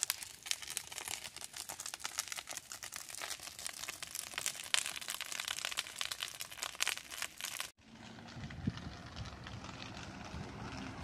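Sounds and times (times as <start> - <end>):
grass and brush fire crackling: 0.0 - 11.0.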